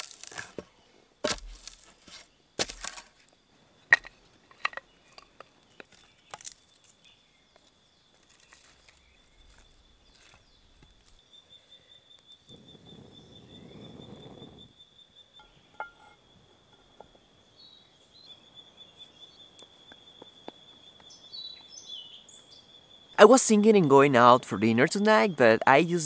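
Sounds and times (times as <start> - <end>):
high-pitched insect trill: 1.4 - 26.0.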